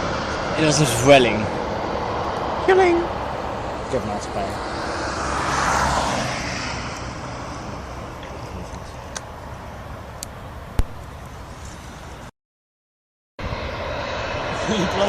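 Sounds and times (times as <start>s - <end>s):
passing vehicle: 0.0s - 12.3s, 13.4s - 15.0s.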